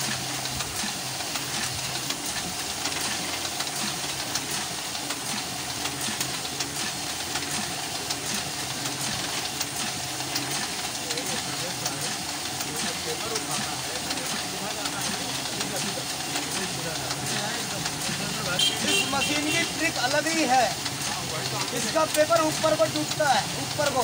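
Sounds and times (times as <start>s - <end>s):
printing press running: 0.0s - 24.0s.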